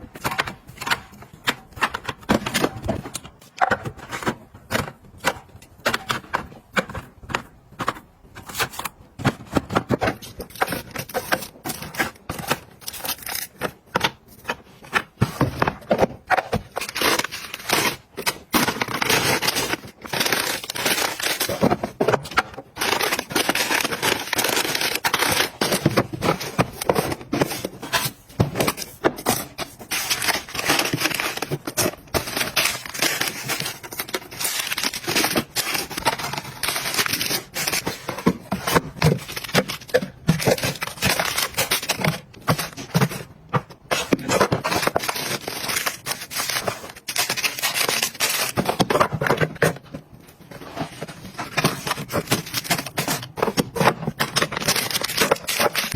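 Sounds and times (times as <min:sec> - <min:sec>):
plastic packaging crinkling: 0:10.2 - 0:55.9.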